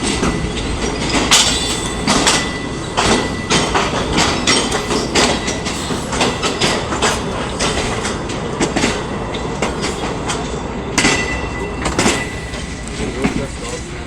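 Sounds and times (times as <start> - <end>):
high wheel squeal: 0.0 - 14.0
train rumble: 0.0 - 14.0
train wheels clicking over rail joints: 0.0 - 14.0.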